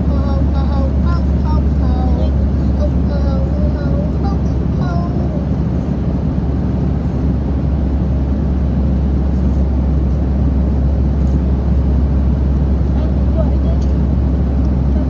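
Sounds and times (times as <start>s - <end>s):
jet cabin engine rumble: 0.0s - 15.0s.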